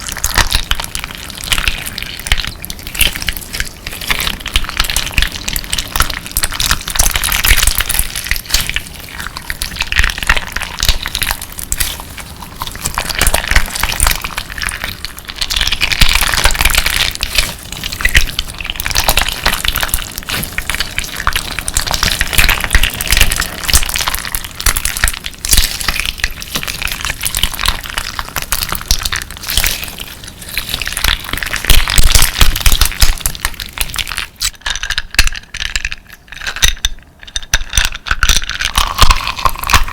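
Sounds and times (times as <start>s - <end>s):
slime crackling and crunching: 0.0s - 39.9s.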